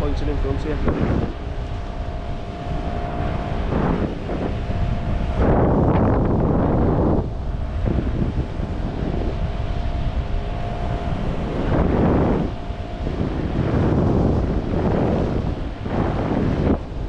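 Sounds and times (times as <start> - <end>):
faint steady hum: 0.0 - 17.0
wind buffeting microphone: 0.0 - 17.0.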